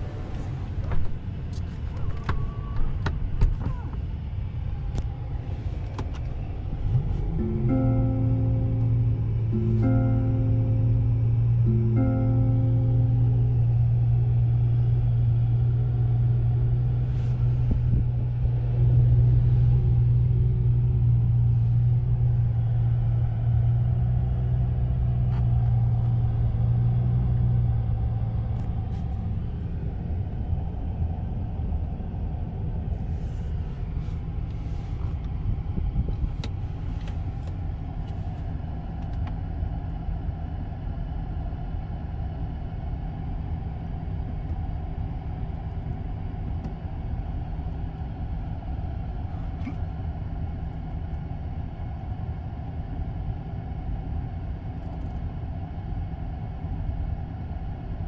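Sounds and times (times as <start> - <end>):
car cabin low rumble: 0.0 - 58.0
deep hum: 0.0 - 58.0.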